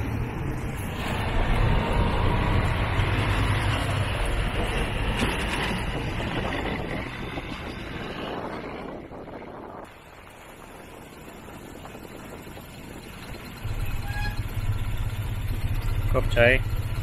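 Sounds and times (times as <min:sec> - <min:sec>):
motorcycle engine rumble: 0:00.0 - 0:17.0
road and wind noise: 0:00.0 - 0:17.0.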